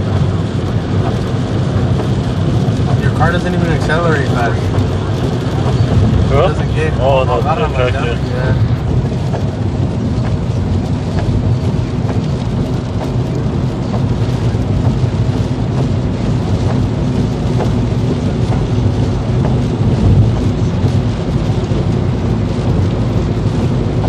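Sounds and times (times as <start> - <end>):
car engine and tyres on wet road: 0.0 - 24.0
rain spattering on car: 0.0 - 24.0.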